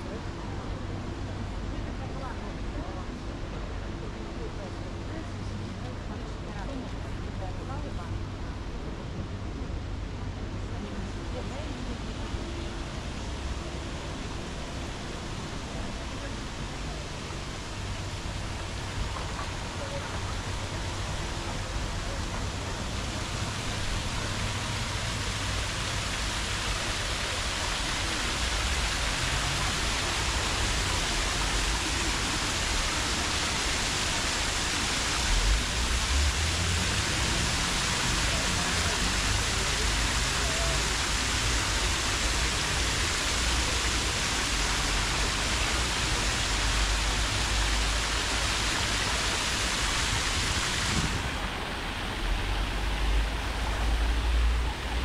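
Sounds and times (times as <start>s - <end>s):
city street hiss: 0.0s - 55.0s.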